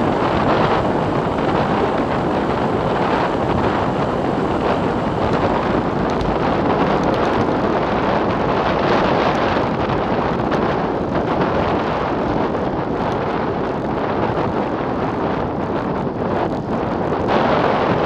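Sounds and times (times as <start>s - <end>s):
wind roaring on microphone: 0.0s - 18.0s.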